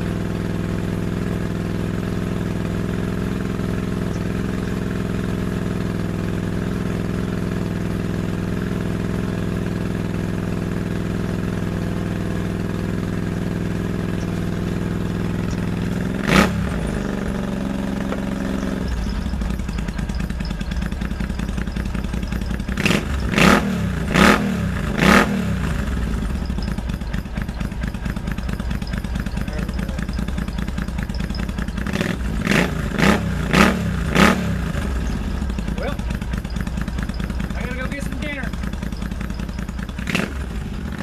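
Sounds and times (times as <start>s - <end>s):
motorcycle engine idling: 0.0s - 41.0s
motorcycle engine revving: 0.0s - 41.0s.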